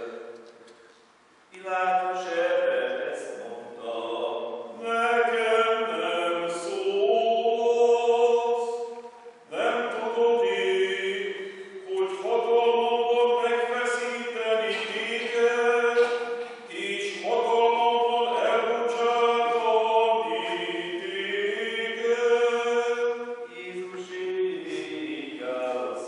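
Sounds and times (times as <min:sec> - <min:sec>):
man chanting: 0:01.5 - 0:26.0.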